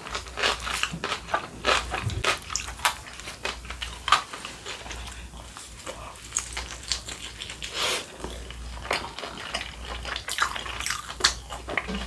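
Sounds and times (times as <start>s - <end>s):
crunchy fried food being chewed: 0.0s - 12.0s.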